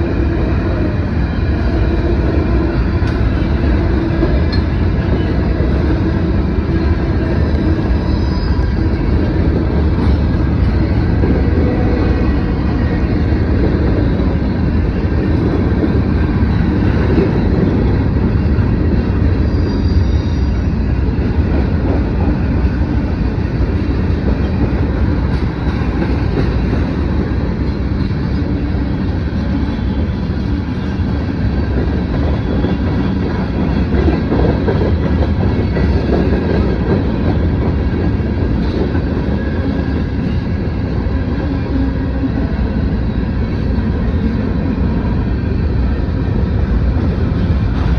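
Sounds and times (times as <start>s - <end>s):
freight train cars rolling past: 0.0s - 47.9s.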